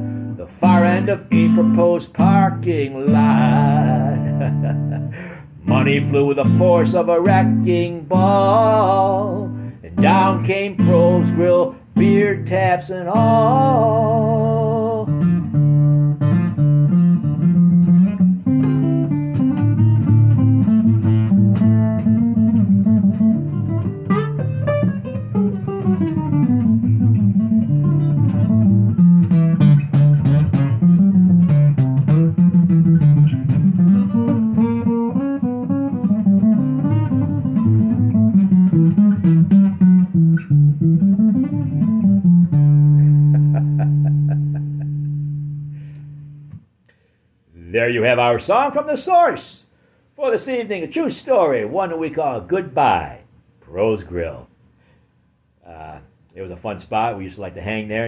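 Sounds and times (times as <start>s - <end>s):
acoustic guitar playing: 0.0s - 46.8s.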